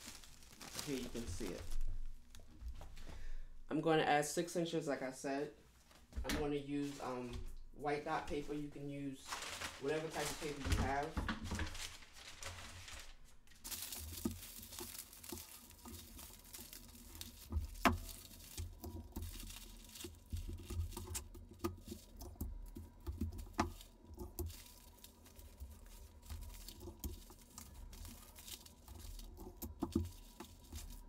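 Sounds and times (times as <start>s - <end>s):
paper rustling and crinkling: 0.0s - 3.0s, 6.8s - 7.5s, 8.1s - 31.0s.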